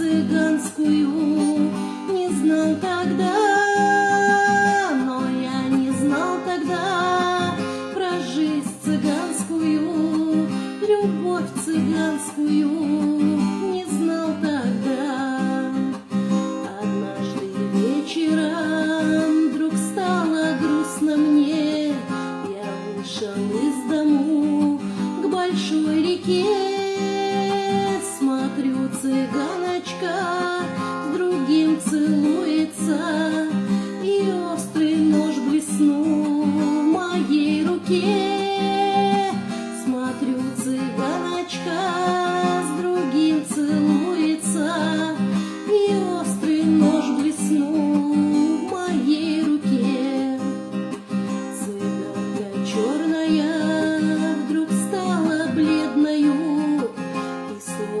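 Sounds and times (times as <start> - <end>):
acoustic guitar strummed and plucked: 0.0 - 58.0
person singing: 0.0 - 58.0.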